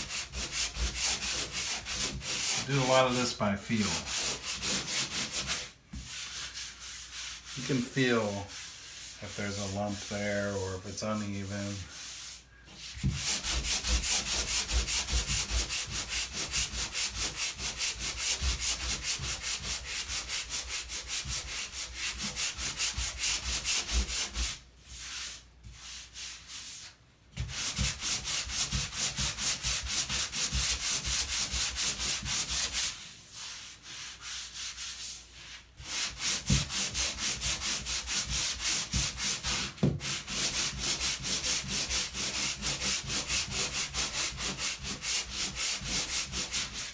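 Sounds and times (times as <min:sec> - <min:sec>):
sanding block rubbing drywall: 0:00.0 - 0:46.9.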